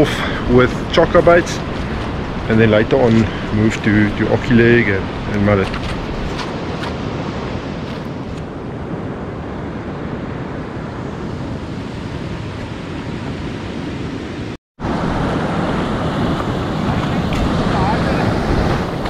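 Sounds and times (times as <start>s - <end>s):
surf washing on shore: 0.0s - 19.0s
wind buffeting microphone: 0.0s - 19.0s.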